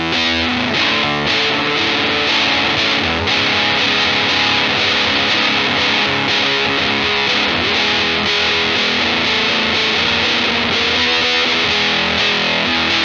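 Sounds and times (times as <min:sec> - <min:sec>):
distorted fuzz electric guitar: 0:00.0 - 0:13.0.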